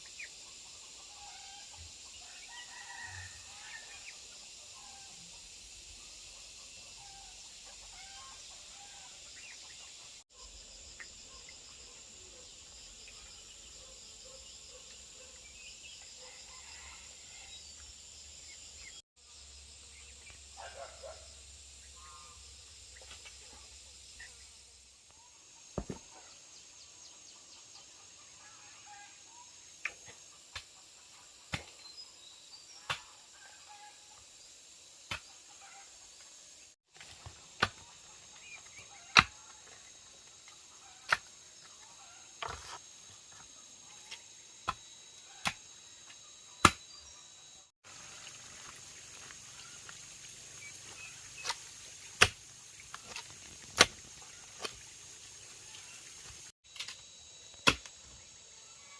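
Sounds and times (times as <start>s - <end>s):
high insect drone: 0.0s - 58.9s.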